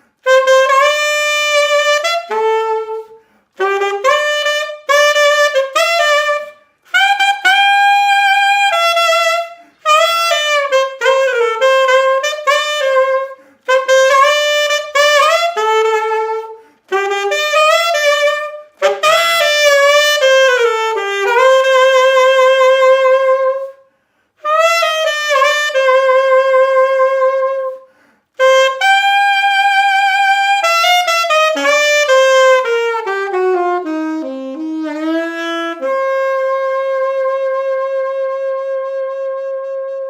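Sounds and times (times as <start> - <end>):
solo saxophone melody: 0.0 - 40.0.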